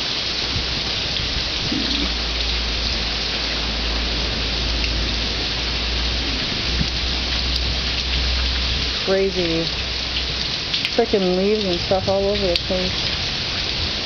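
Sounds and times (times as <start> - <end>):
rain pouring: 0.0 - 14.0.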